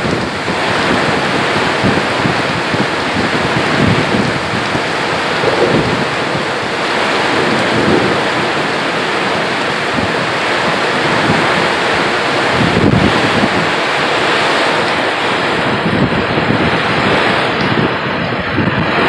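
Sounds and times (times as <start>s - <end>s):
heavy rain pouring: 0.0s - 19.0s
wind gusts buffeting: 0.0s - 19.0s.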